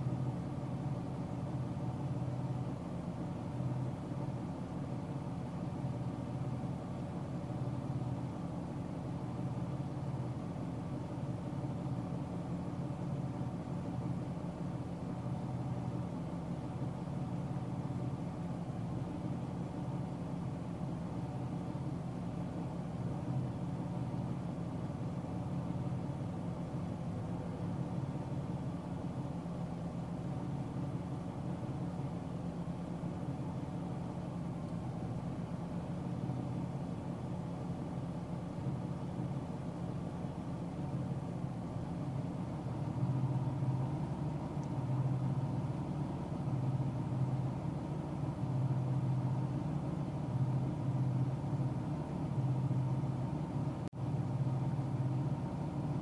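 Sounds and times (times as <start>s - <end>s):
car engine and tyre hum: 0.0s - 56.0s.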